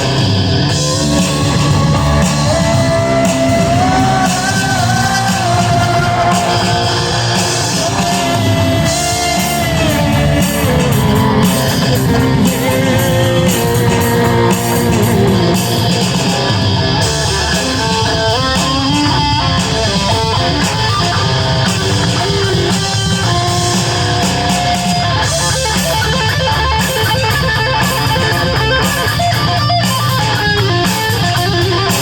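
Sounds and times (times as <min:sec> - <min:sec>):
loud rock music: 0:00.0 - 0:32.0.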